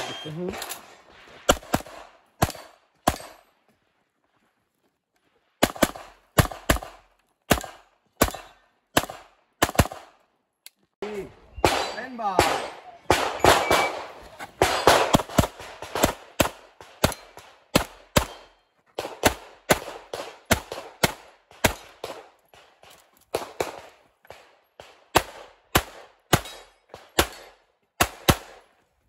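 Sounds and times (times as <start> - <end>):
pistol shots: 0.0 - 3.4, 5.6 - 10.2, 11.6 - 28.7.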